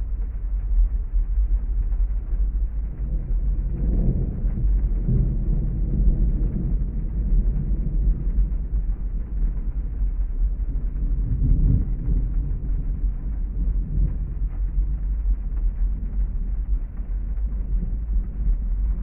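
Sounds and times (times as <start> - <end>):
deep storm rumble: 0.0 - 19.0
thunder rolling: 0.0 - 19.0.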